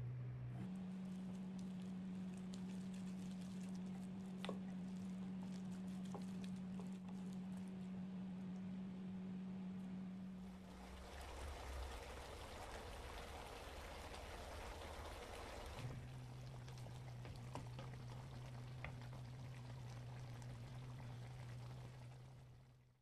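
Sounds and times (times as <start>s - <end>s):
steady low hum: 0.0s - 22.9s
stew simmering with bubble pops: 0.7s - 7.8s, 10.5s - 22.9s.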